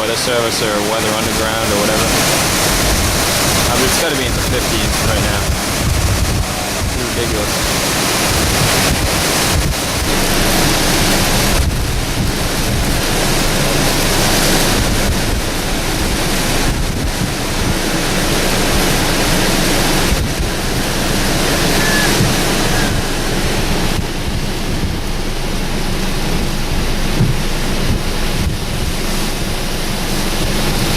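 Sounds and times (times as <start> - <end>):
strong wind on microphone: 0.0 - 30.9.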